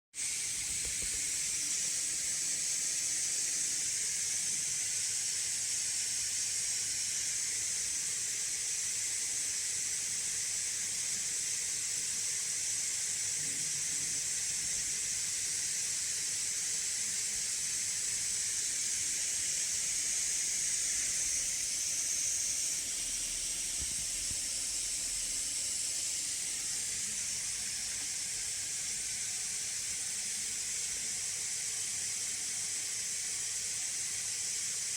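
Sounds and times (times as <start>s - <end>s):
laptop cooling fans running: 0.4s - 34.9s.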